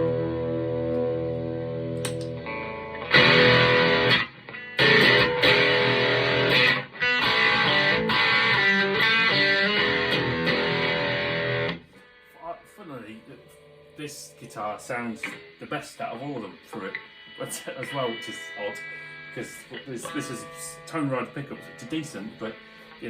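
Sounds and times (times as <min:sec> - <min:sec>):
electric guitar chords: 0:00.0 - 0:15.7, 0:16.4 - 0:23.0.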